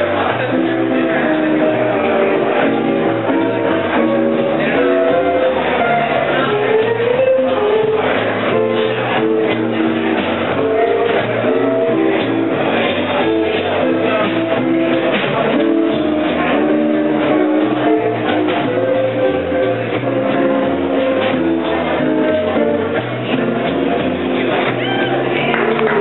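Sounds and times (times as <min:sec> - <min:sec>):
drums: 0:00.0 - 0:26.0
electric guitar melody: 0:00.0 - 0:26.0
upright bass: 0:00.0 - 0:26.0.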